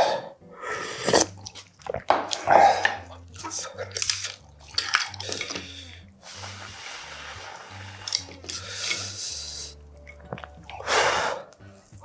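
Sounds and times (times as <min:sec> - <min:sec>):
wet noodles shuffling: 0:01.2 - 0:12.0.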